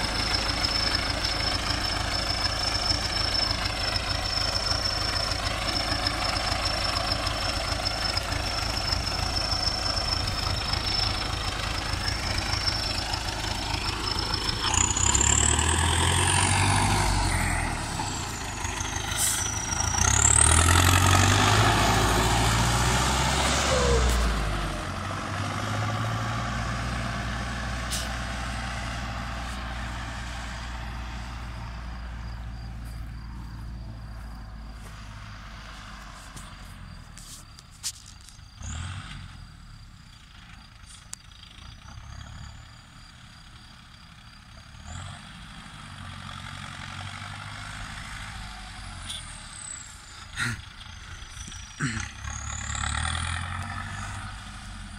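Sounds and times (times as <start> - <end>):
diesel tractor engine running: 0.0 - 54.9.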